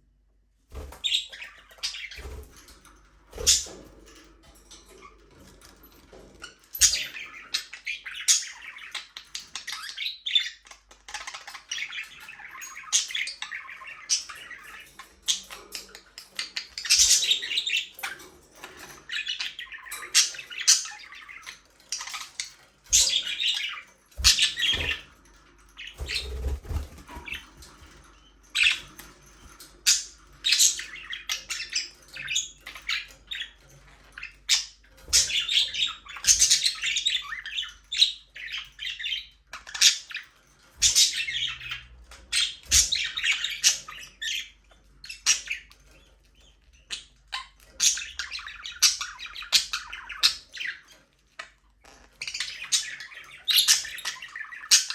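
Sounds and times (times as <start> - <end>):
budgerigars chirping and chattering: 0.7 - 54.9.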